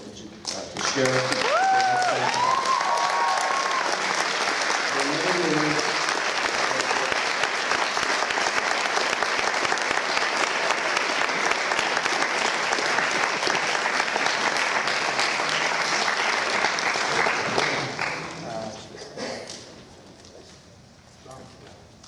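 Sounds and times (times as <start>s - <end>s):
audience applauding: 0.8s - 18.6s.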